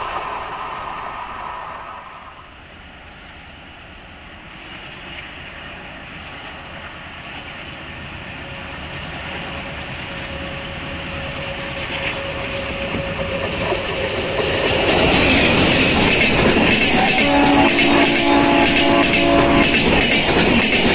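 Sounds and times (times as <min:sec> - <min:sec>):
diesel train approaching: 0:00.0 - 0:20.9.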